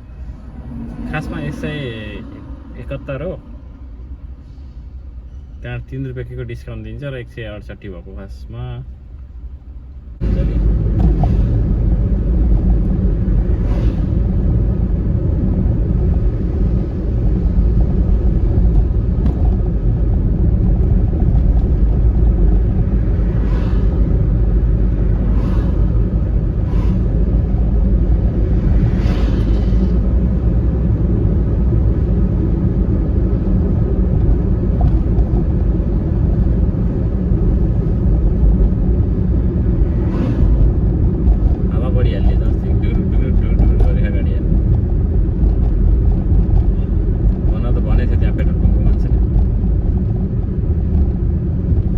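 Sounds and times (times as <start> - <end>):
road and engine rumble: 0.0 - 51.9.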